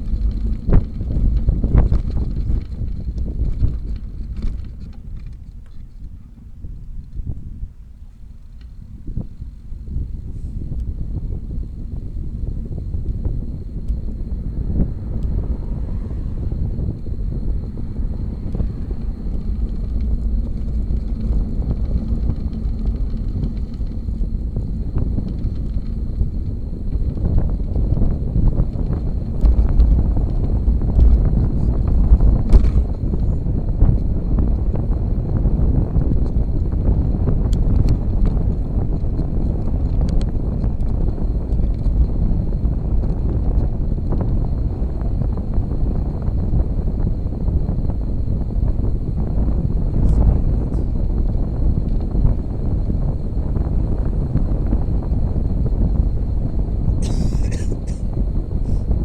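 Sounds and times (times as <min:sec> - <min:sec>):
bicycle road noise: 0:00.0 - 0:59.0
wind rumble on microphone: 0:00.0 - 0:59.0.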